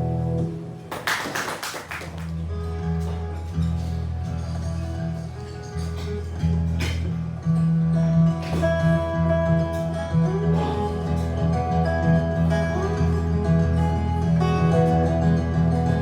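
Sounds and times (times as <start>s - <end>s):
bass notes: 0.0s - 0.9s, 2.3s - 16.0s
guitar playing: 0.0s - 1.1s, 2.2s - 16.0s.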